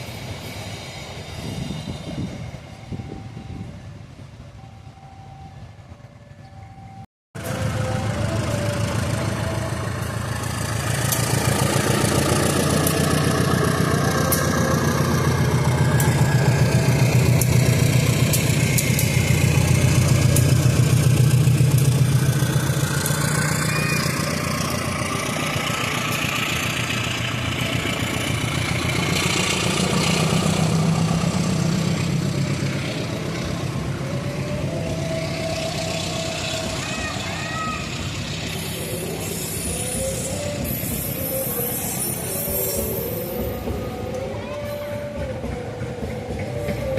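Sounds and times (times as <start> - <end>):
diesel locomotive engine droning: 0.0 - 46.9.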